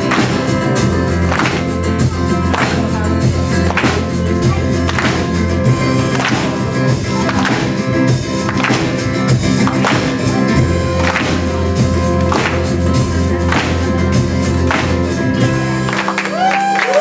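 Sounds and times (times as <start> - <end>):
steady drum beat: 0.0 - 16.5
live worship band playing: 0.0 - 17.0.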